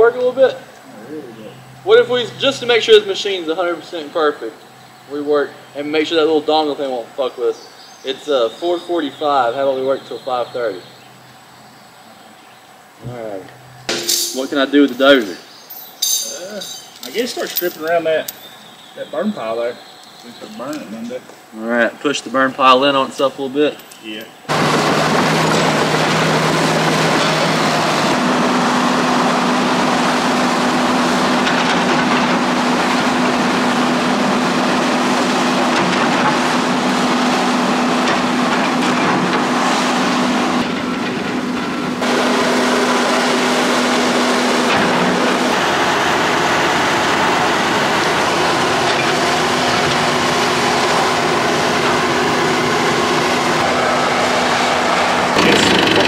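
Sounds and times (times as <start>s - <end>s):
diesel machine engines droning: 0.0s - 56.0s.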